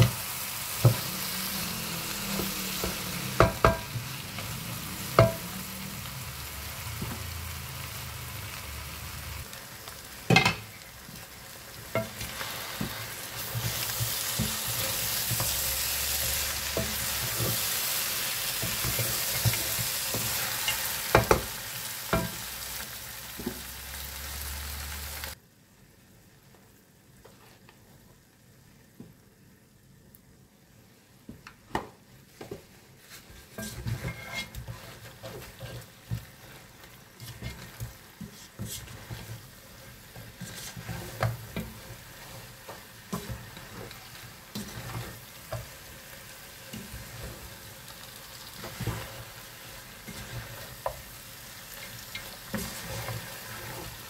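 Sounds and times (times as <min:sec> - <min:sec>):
curry sizzling in a pot: 0:00.0 - 0:29.6, 0:30.9 - 0:54.0.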